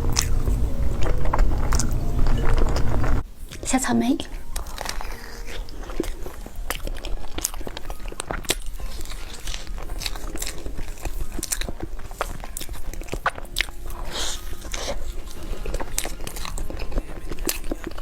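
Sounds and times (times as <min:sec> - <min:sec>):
crunchy chewing: 0:00.0 - 0:18.0.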